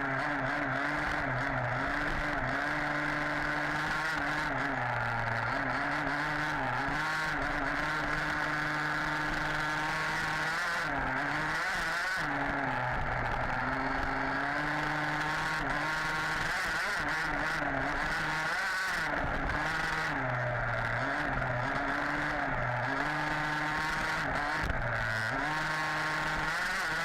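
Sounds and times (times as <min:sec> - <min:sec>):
small two-stroke engine revving: 0:00.0 - 0:27.0.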